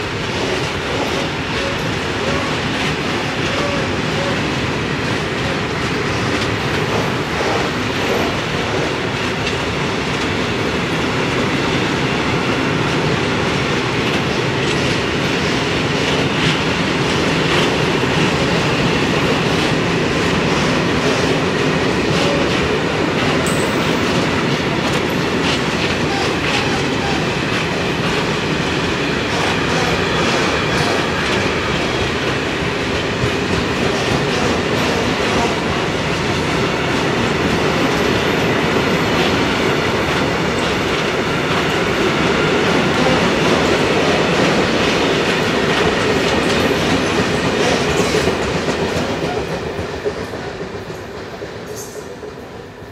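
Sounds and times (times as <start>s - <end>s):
wheels clacking over rail joints: 0.0s - 52.4s
freight train rumble: 0.0s - 52.9s.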